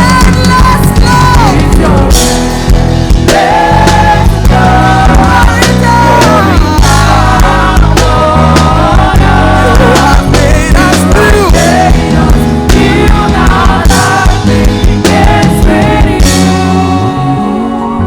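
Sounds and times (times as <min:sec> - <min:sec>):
wordless singing: 0:00.0 - 0:02.5, 0:03.2 - 0:18.0
worship band playing: 0:00.0 - 0:18.0.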